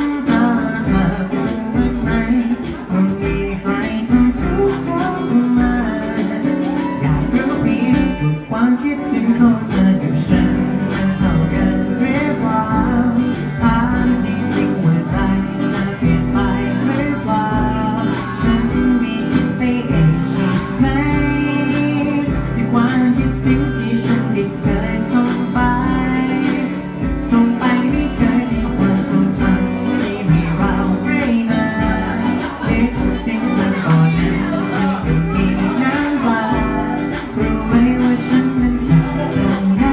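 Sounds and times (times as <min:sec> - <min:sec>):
live pop band playing: 0:00.0 - 0:39.9.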